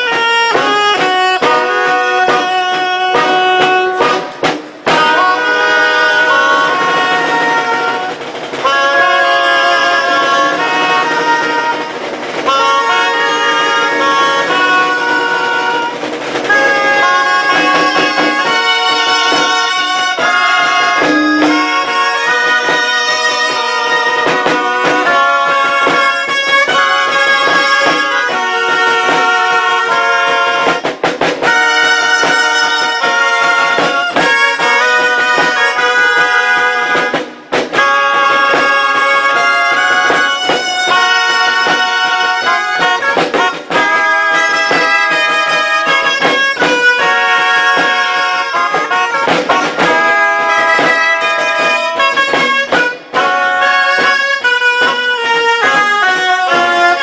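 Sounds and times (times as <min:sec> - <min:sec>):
drums: 0:00.0 - 0:57.0
shawms playing a bright tune: 0:00.0 - 0:57.0.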